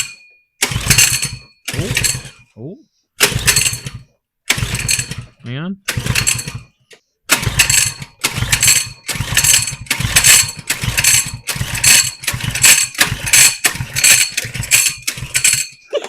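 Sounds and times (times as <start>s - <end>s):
engine cranked with pull starter: 0.0s - 2.5s, 3.2s - 16.0s.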